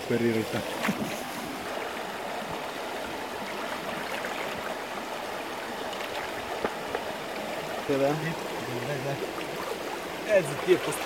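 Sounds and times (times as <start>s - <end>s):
river running over stones: 0.0s - 11.0s.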